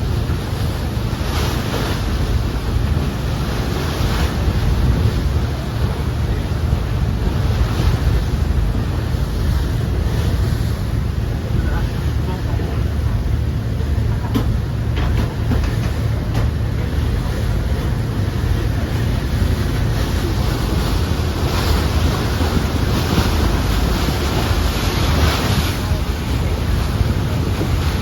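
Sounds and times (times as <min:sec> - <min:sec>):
motorboat rumble: 0:00.0 - 0:28.0
water rushing along hull: 0:00.0 - 0:28.0
wind buffeting microphone: 0:00.0 - 0:28.0.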